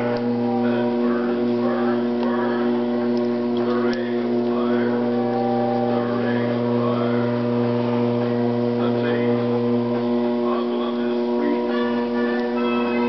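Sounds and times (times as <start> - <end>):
potter's wheel motor hum: 0.0 - 13.0.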